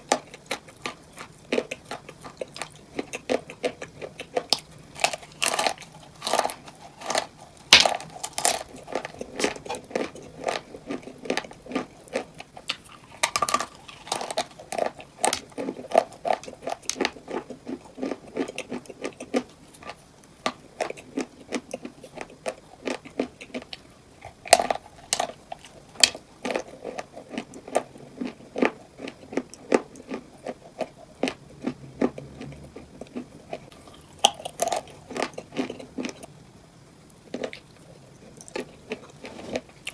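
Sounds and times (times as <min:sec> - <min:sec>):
crunchy chewing: 0:00.0 - 0:36.4, 0:37.1 - 0:39.9.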